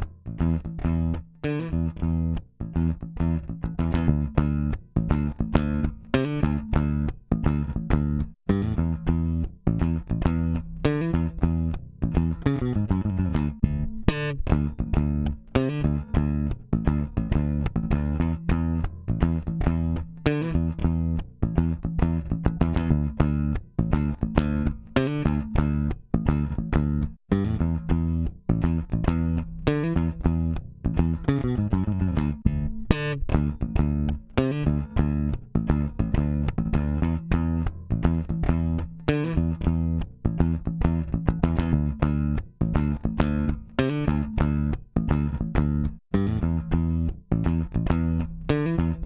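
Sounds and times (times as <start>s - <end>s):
bass guitar plucked notes: 0.0s - 49.0s.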